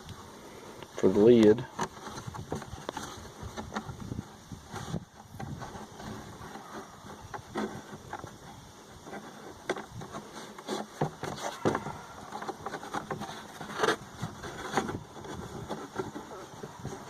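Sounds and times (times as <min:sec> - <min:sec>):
small clicks rubs and rustles: 0:00.0 - 0:17.0.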